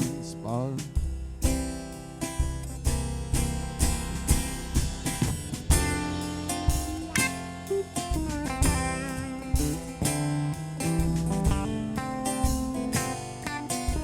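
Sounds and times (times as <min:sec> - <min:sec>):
country band instrumental: 0:00.0 - 0:14.0.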